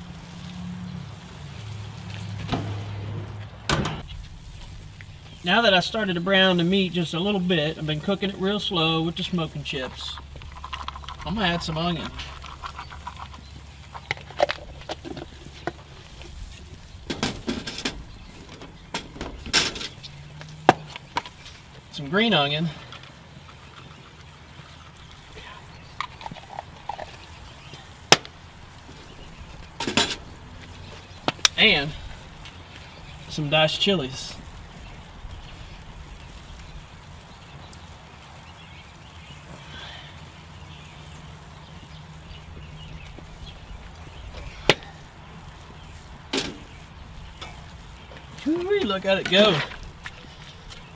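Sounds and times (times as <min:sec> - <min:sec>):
meat crackling in skillet: 0:00.0 - 0:50.9.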